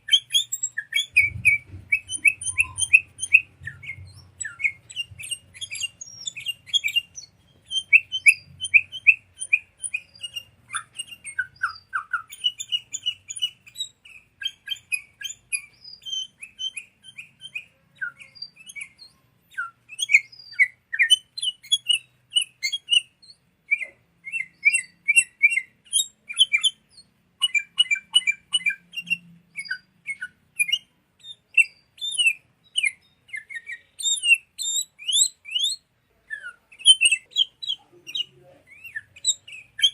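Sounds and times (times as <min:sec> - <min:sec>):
bulbul chirping: 0:00.0 - 0:39.9.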